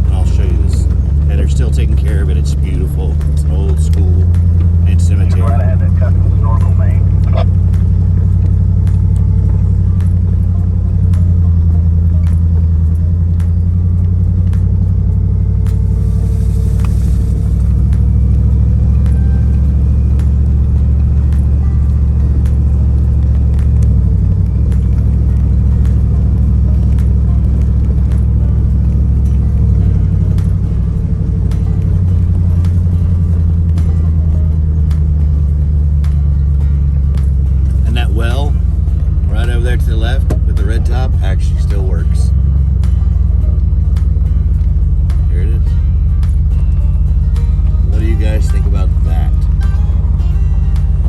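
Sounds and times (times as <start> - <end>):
truck engine droning: 0.0 - 51.0.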